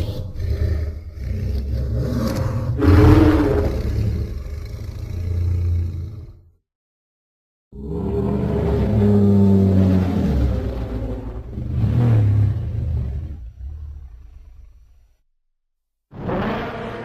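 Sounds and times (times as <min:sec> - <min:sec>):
deep rumbling monster roar: 0:00.0 - 0:06.6, 0:07.8 - 0:15.0.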